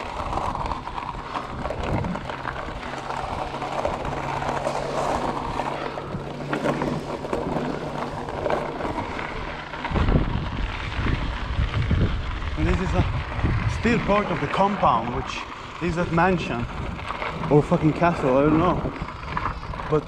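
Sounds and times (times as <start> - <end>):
bike rattles and clicks: 0.0 - 20.0
bike tyres crunching on gravel: 0.0 - 20.0.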